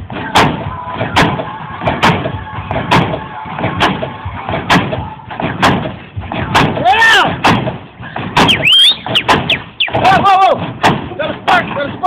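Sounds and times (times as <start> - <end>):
car landing with heavy thuds: 0.2 - 6.8, 7.4 - 11.2.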